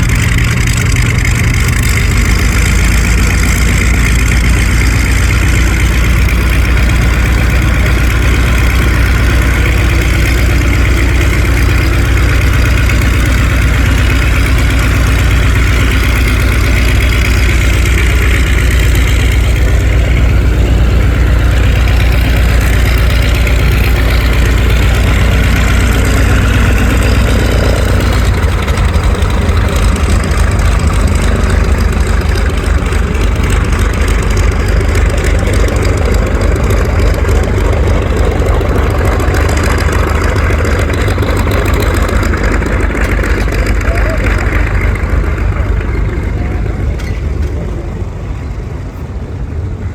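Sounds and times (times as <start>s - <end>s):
radial aircraft engine idling: 0.0s - 49.9s.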